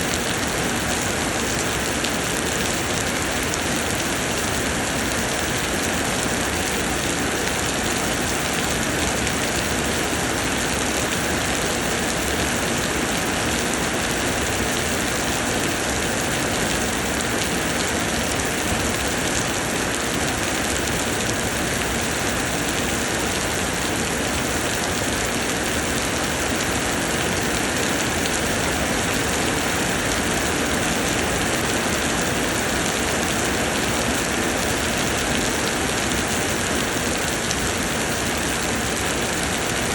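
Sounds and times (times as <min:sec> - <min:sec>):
rain pouring: 0:00.0 - 0:39.9.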